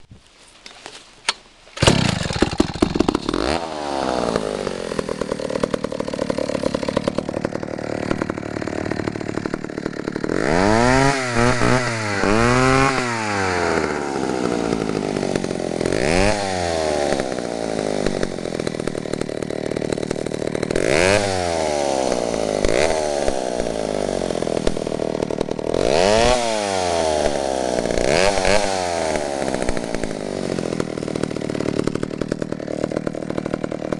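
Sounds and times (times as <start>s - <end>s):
chainsaw starting and revving: 1.8s - 33.9s.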